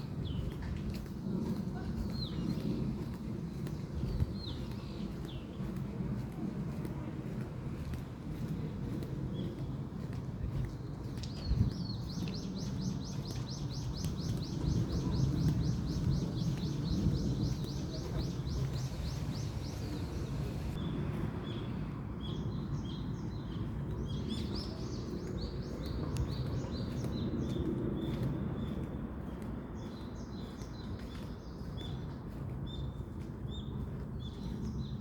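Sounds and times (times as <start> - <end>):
low outdoor rumble: 0.0 - 31.1.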